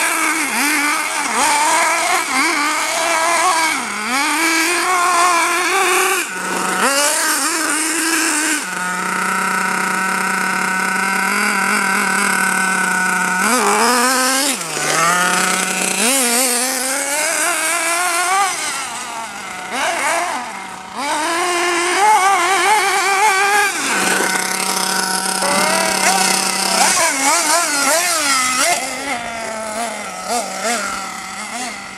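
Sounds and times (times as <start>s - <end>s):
small nitro engine idling and revving: 0.0s - 31.9s.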